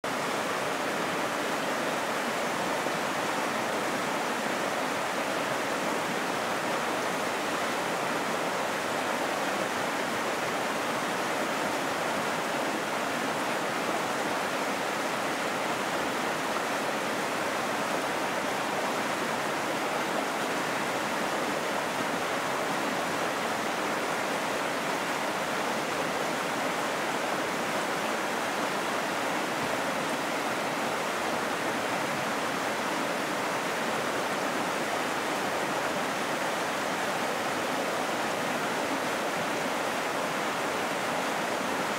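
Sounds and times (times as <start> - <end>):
water rushing over rocks: 0.1 - 41.9.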